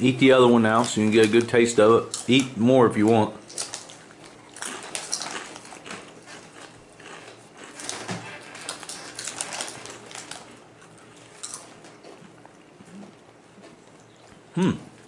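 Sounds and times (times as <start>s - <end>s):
chips crunching while chewed: 0.6s - 14.4s.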